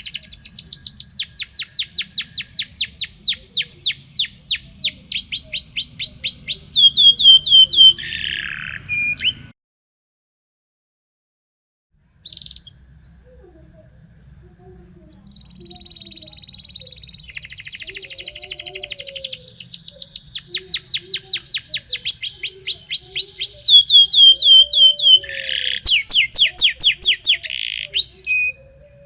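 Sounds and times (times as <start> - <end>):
canary singing: 0.0 - 9.5, 12.1 - 29.0.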